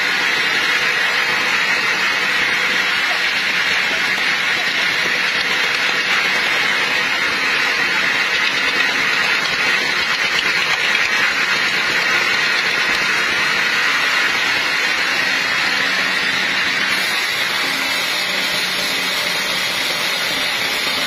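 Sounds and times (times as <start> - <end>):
sawmill machinery whirring: 0.0 - 21.0.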